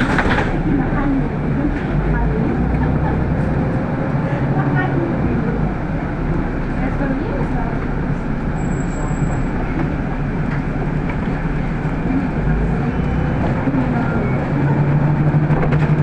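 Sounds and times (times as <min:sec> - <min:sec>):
bus motor and road rumble: 0:00.0 - 0:16.0.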